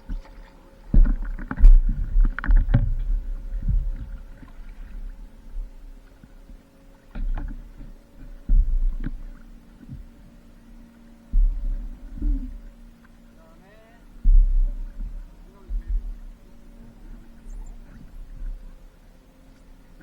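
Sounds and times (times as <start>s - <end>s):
low rumbling over microphone: 0.0s - 6.5s, 7.1s - 20.0s
paddle strokes splashing: 0.0s - 20.0s.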